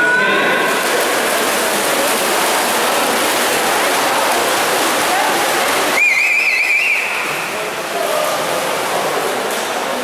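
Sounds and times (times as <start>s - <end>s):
spectators shouting and cheering: 0.0s - 9.2s
swimmers splashing: 0.4s - 10.0s.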